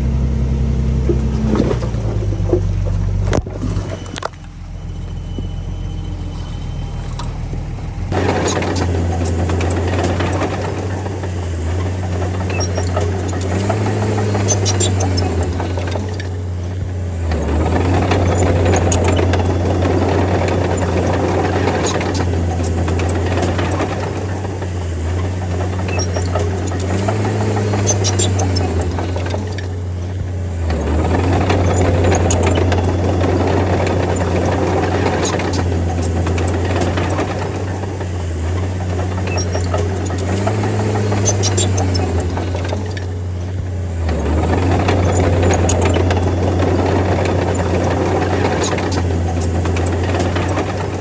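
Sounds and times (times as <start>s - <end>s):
bulldozer diesel engine: 0.0s - 51.0s
track and blade clatter: 0.0s - 51.0s.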